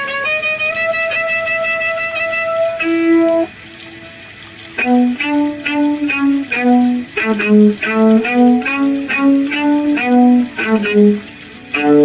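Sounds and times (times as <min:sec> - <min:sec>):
solo violin playing detached notes: 0:00.0 - 0:03.5, 0:04.8 - 0:12.0.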